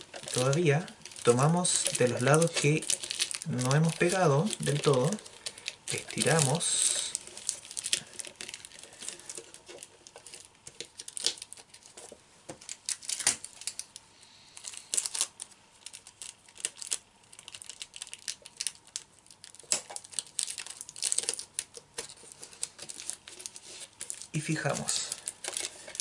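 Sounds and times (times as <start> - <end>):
plastic film crinkling: 0.0 - 26.0.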